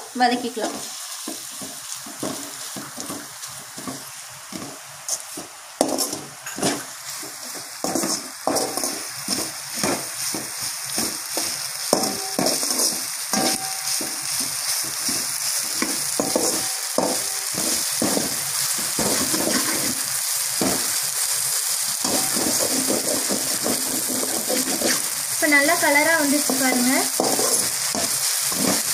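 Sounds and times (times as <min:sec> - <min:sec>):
food sizzling in a pan: 0:00.0 - 0:28.9
spatula scraping a pan: 0:00.7 - 0:21.0, 0:22.0 - 0:25.3, 0:26.3 - 0:28.9.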